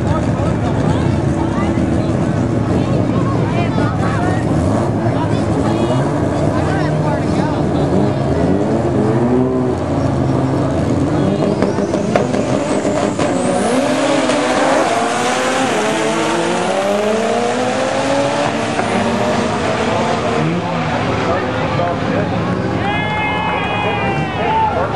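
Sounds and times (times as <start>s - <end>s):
turbocharged car engine revving: 0.0s - 22.8s.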